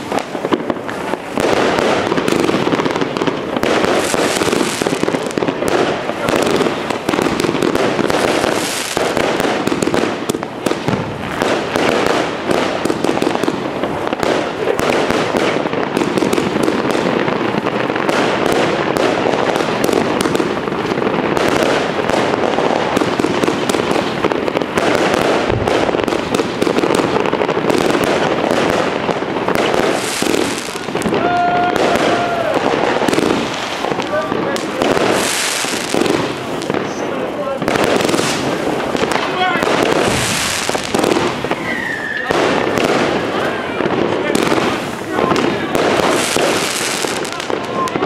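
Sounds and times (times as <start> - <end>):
fireworks launching and bursting: 0.0 - 48.0.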